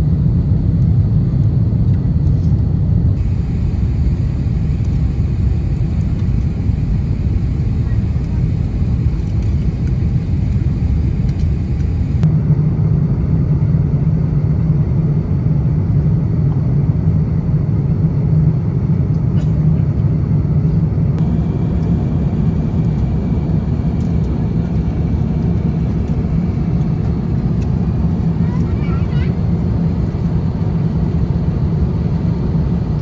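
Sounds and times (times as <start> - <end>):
airplane cabin low rumble: 0.0 - 33.0.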